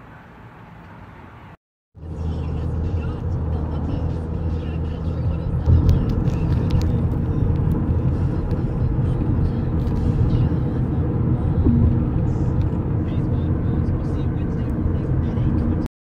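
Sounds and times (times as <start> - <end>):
vehicle engine and road rumble: 0.0 - 15.9.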